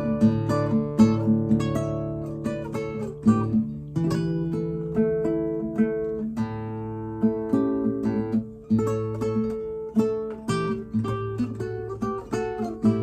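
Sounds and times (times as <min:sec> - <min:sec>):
classical guitar playing: 0:00.0 - 0:13.0.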